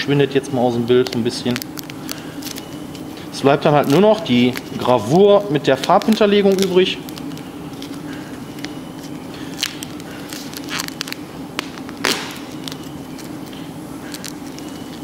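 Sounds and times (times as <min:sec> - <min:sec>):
plastic film crackling and rustling: 0:00.7 - 0:15.0.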